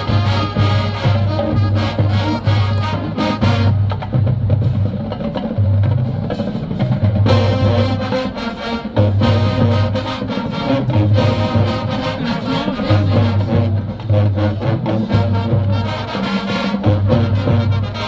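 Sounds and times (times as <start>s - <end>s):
drums: 0.0s - 18.0s
marching band playing: 0.0s - 18.0s.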